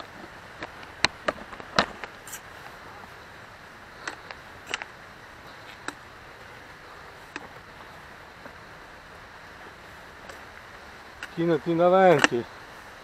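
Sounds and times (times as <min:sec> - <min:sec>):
footsteps on rocky path: 0:00.0 - 0:13.0
steady rushing noise: 0:00.0 - 0:13.0.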